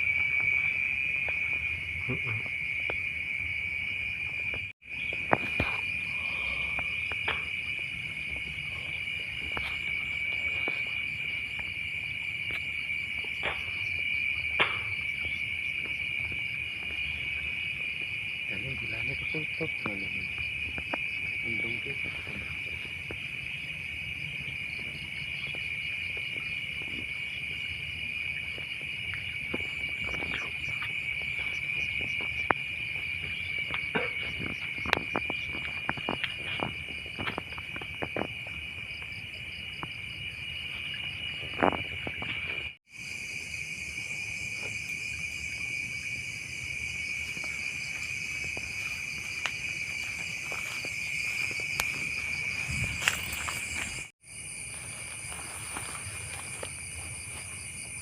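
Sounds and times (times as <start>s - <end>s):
night insects trilling: 0.0s - 58.0s.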